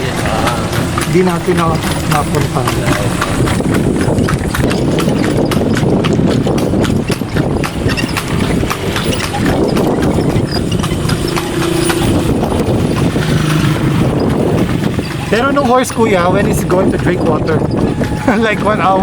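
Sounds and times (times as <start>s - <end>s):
horse hooves clip-clopping on pavement: 0.0s - 19.0s.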